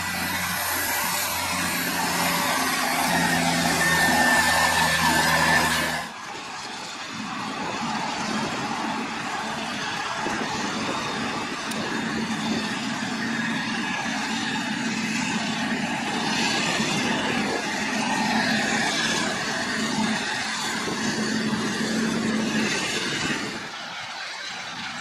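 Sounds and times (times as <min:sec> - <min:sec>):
heavy machinery drone: 0:00.0 - 0:25.0.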